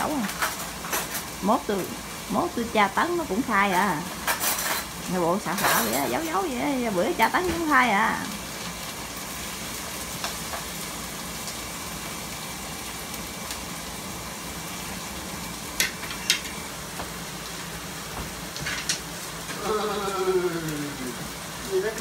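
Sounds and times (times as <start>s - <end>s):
steak sizzling in a pan: 0.0s - 22.0s.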